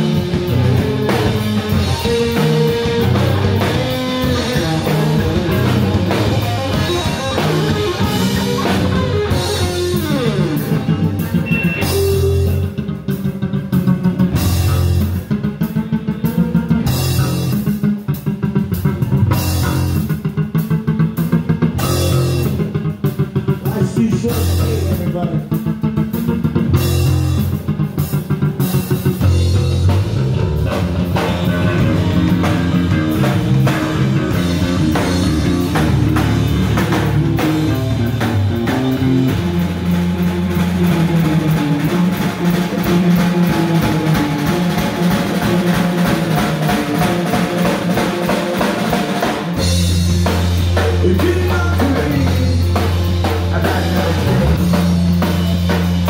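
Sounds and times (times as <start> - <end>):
electric bass guitar: 0.0 - 56.0
rock band playing: 0.0 - 56.0.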